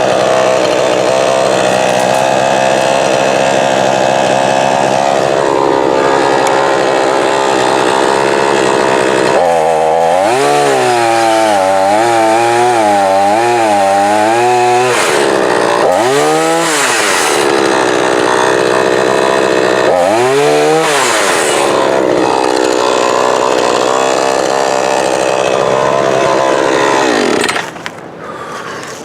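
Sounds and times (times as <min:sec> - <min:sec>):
chainsaw cutting tree limbs: 0:00.0 - 0:28.2.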